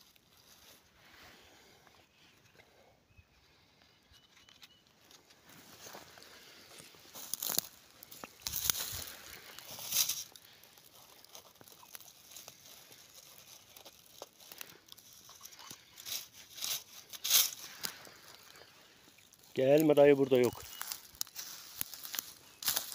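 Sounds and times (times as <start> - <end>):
dry leaves and twigs crunching: 0.0 - 1.8, 4.2 - 22.9.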